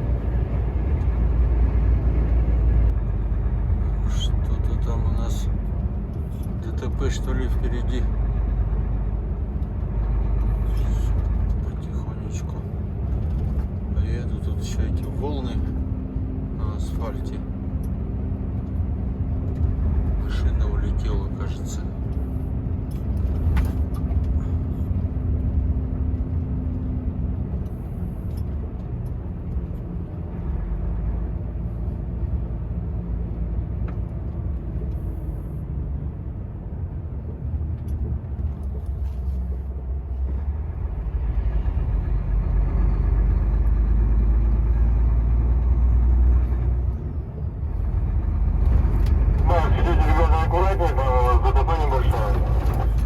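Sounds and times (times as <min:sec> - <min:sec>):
road noise inside cab: 0:00.0 - 0:53.0
truck diesel engine running: 0:00.0 - 0:53.0.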